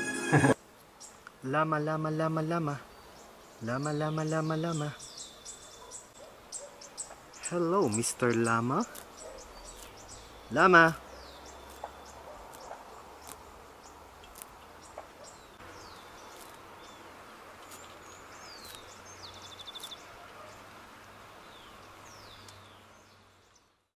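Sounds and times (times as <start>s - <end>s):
small birds chirping: 0.8s - 23.9s.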